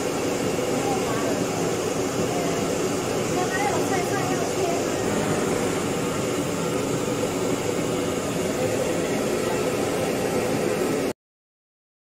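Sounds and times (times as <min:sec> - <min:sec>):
continuous hiss and rumble: 0:00.0 - 0:11.1.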